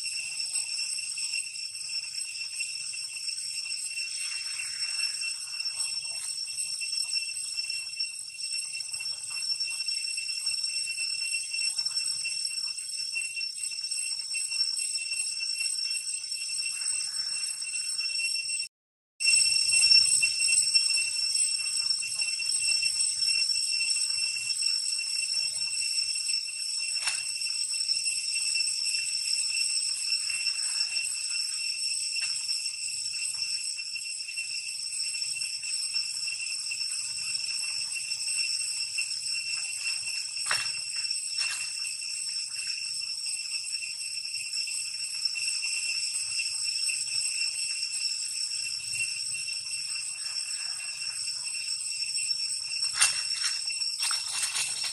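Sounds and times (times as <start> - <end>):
insects droning shrilly: 0.0 - 54.9.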